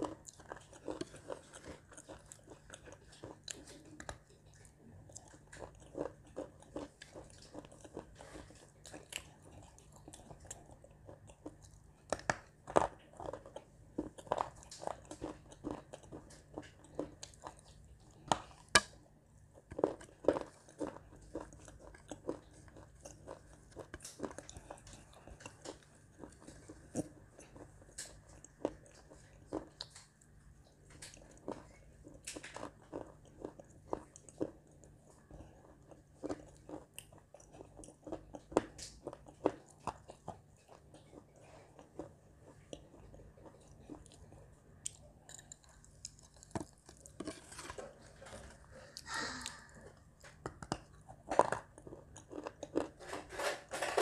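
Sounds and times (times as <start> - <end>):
clay being bitten and chewed: 0.0 - 54.0.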